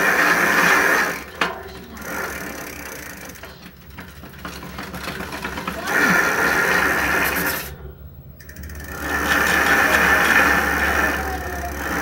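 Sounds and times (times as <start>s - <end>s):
freewheel ratchet clicking: 0.0s - 7.7s, 8.4s - 12.0s
bicycle chain whirring: 0.0s - 12.0s.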